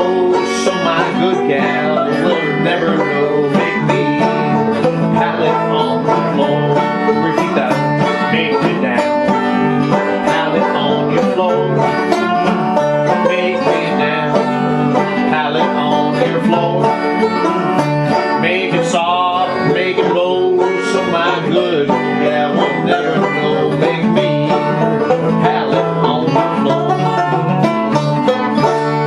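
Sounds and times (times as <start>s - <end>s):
fingerpicked acoustic blues: 0.0s - 29.0s.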